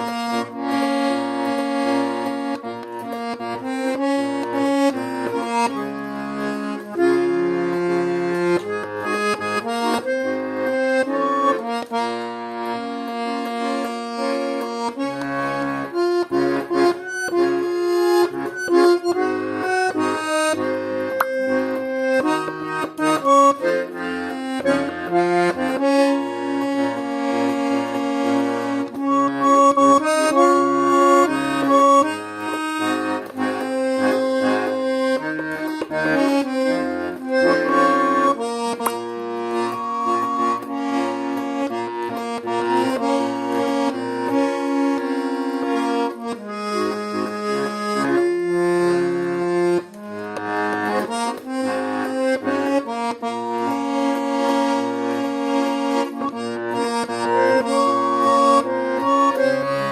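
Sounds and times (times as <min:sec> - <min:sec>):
button accordion folk tune: 0:00.0 - 0:59.9.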